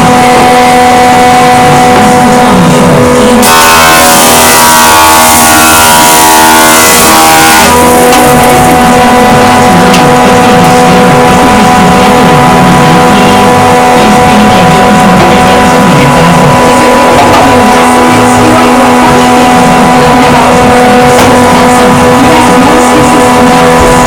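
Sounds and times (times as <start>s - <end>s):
woodworking power machine humming: 0.0s - 24.0s.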